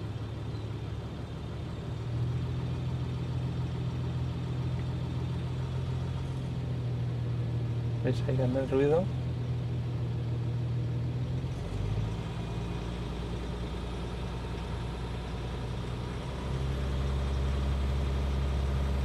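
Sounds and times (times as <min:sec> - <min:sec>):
diesel engine idling with clatter: 0:00.0 - 0:19.0.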